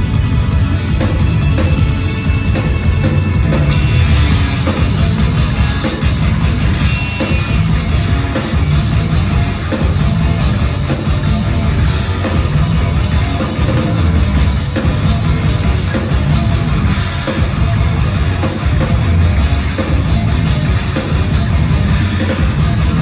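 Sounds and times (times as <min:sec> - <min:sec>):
distorted electric guitars: 0:00.0 - 0:23.0
drum kit: 0:00.0 - 0:23.0.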